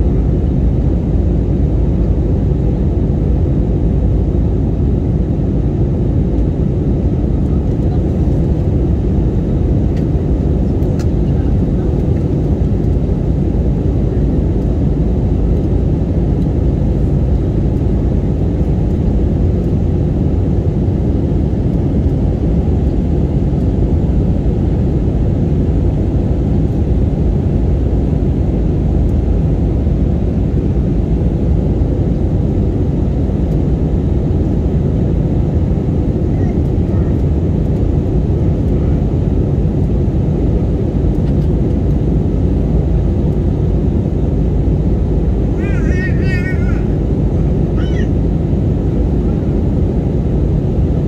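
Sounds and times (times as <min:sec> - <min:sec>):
airliner cabin engine and airflow noise: 0:00.0 - 0:51.0.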